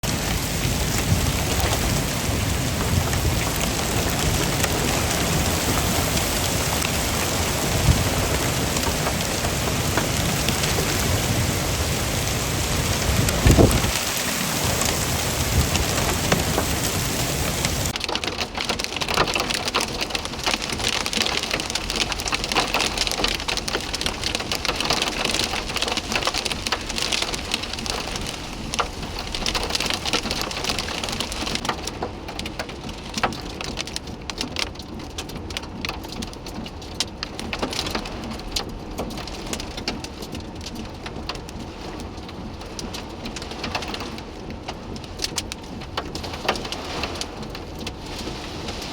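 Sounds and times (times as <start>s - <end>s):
heavy rain on hard surfaces: 0.0s - 48.9s.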